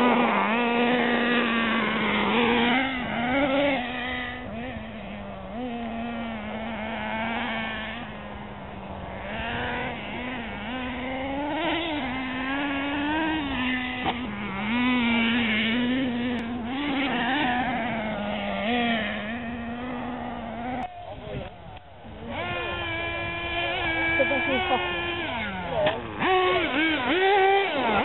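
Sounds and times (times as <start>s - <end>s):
radio-controlled cars buzzing: 0.0s - 28.0s.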